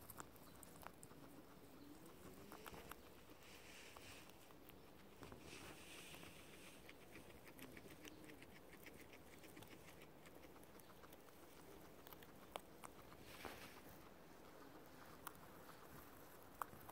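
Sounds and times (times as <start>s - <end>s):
guinea pigs munching: 0.0s - 16.9s.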